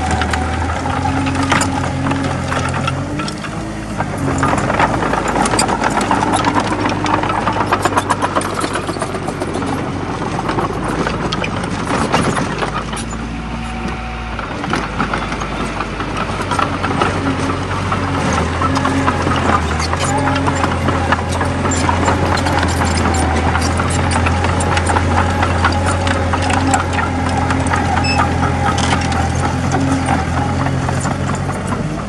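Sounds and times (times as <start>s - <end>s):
rapid clatter of clicks: 0.0s - 13.3s, 14.4s - 32.0s
bulldozer diesel engine running: 0.0s - 32.0s.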